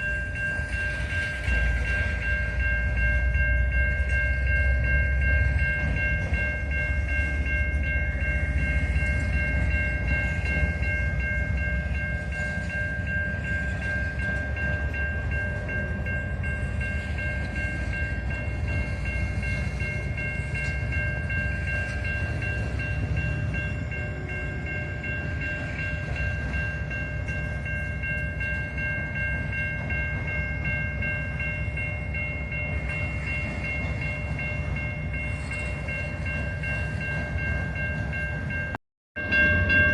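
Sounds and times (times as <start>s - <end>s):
high-pitched multi-tone ringing: 0.0s - 39.9s
train rumbling past: 0.0s - 39.9s.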